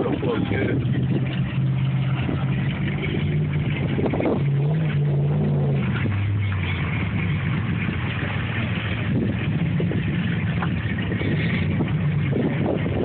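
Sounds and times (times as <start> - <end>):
truck engine running: 0.0 - 13.0
wind noise: 0.0 - 13.0.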